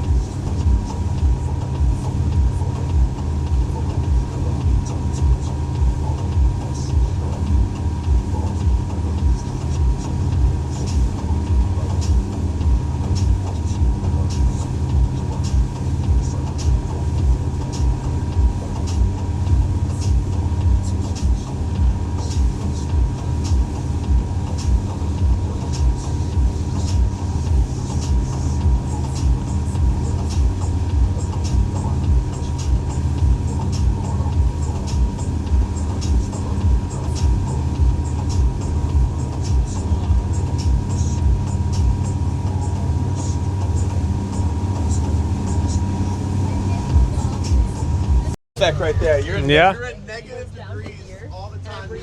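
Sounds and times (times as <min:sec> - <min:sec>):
outboard motor running: 0:00.0 - 0:49.8.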